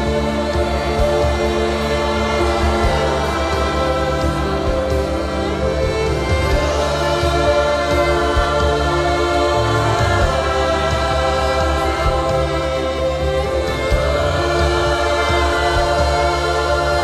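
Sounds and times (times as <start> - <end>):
bass guitar: 0.0 - 17.0
bowed cello: 0.0 - 17.0
worship band music: 0.0 - 17.0.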